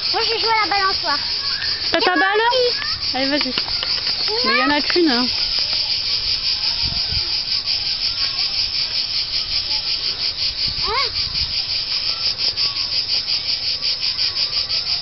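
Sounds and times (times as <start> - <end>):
insects buzzing in chorus: 0.0 - 15.0.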